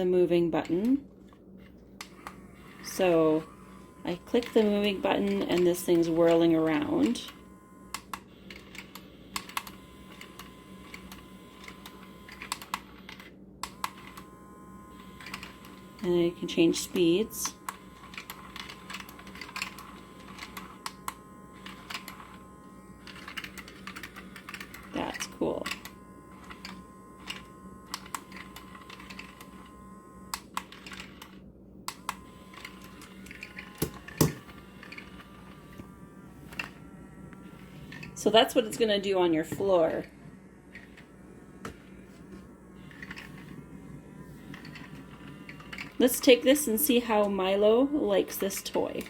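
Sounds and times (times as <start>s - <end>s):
toy motor whirring: 2.0s - 41.9s, 42.8s - 49.0s.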